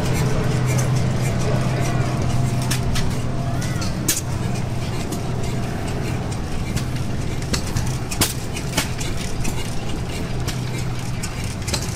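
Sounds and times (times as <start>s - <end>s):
gas engine popping and droning: 0.0s - 11.9s.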